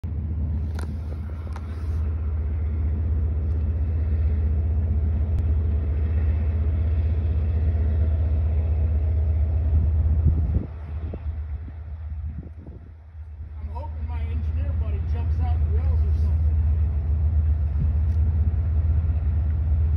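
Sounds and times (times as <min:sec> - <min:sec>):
diesel locomotive engine rumbling: 0:00.0 - 0:19.9.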